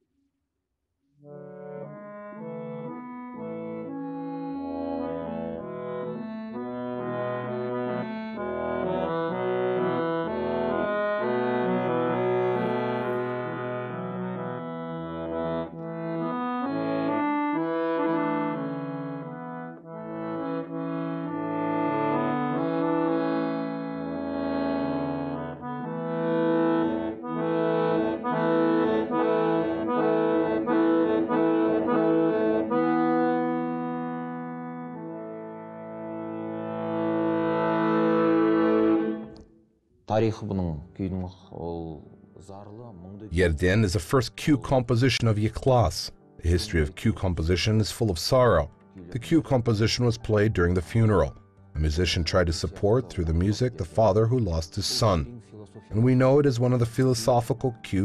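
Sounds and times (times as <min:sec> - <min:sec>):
accordion melody: 0:01.3 - 0:39.5, 0:43.3 - 0:58.0.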